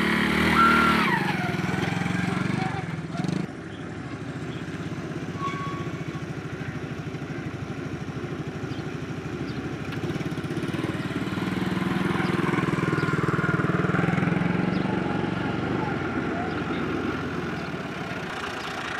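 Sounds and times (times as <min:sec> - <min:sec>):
small motorcycle engine: 0:00.0 - 0:18.9.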